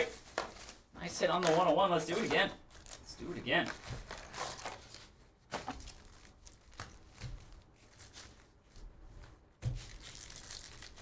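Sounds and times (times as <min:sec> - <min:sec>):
foil and cardboard rustling: 0:00.0 - 0:08.9.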